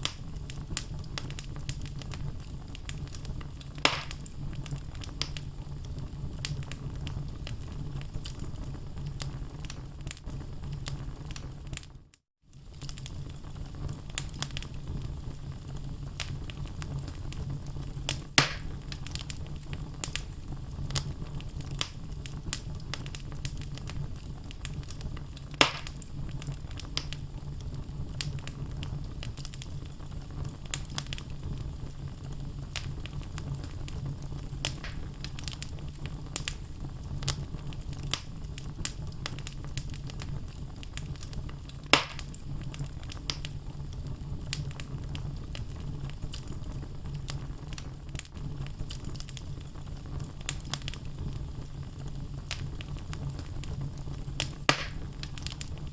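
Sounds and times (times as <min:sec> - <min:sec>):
loud pops from fire: 0:00.0 - 0:11.9, 0:12.6 - 0:55.9
fire flames rumbling: 0:00.0 - 0:55.9
wood fire crackling: 0:00.0 - 0:55.9.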